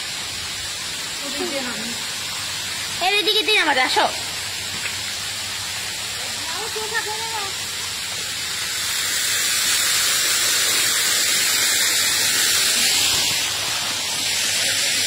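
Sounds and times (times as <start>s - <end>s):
loud steady hissing: 0.0s - 15.0s.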